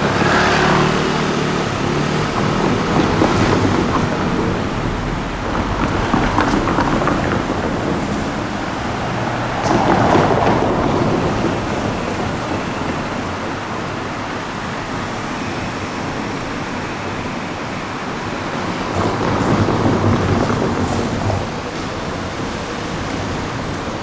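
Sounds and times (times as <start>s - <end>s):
electric train running past: 0.0s - 24.0s.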